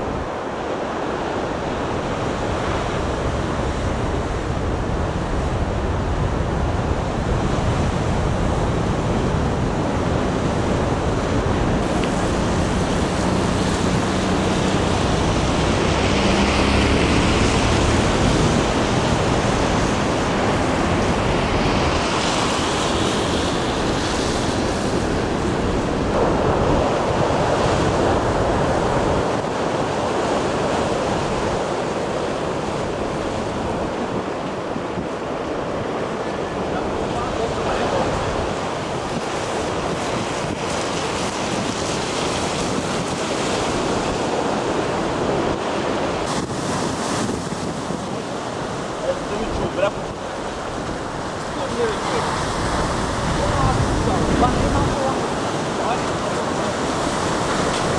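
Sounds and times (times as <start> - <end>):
storm waves breaking: 0.0 - 57.9
wind buffeting microphone: 0.0 - 57.9.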